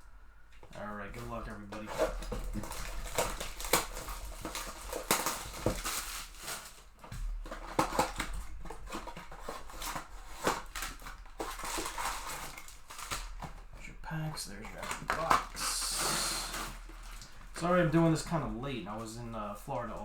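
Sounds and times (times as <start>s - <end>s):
cardboard and foil rustling: 0.4s - 20.0s
sharp clicks and crackles: 0.5s - 18.0s
wrapper crinkling: 0.7s - 20.0s.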